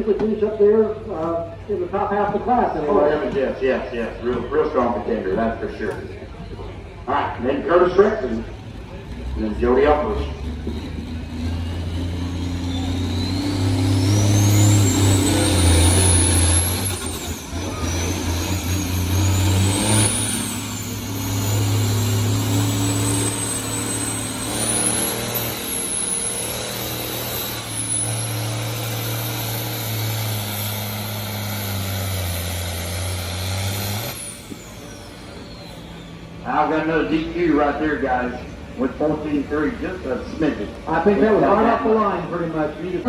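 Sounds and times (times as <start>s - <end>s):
tractor engine under load: 0.0s - 43.0s.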